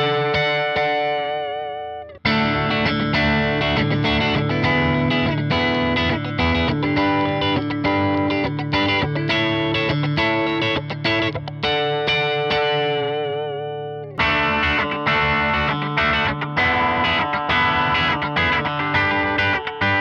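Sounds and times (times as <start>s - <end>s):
electric guitar strummed chords: 0.0s - 20.0s.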